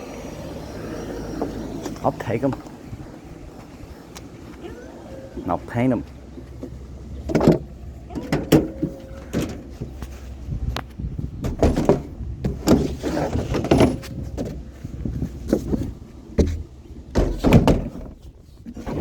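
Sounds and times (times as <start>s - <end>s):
low rumble: 0.0s - 16.9s
knocks clunks and rattles: 0.0s - 19.0s.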